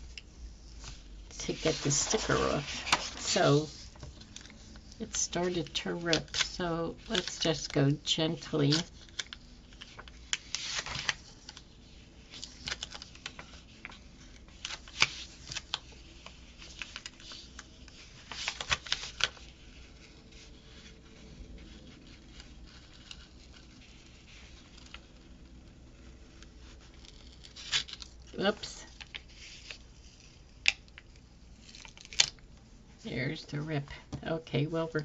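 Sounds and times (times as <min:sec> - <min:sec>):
paper rustling: 0:00.0 - 0:32.4.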